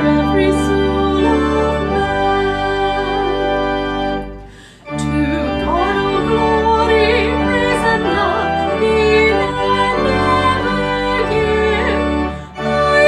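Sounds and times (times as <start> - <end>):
person singing: 0.0 - 3.5, 4.6 - 13.0
church organ playing a hymn: 0.0 - 13.0.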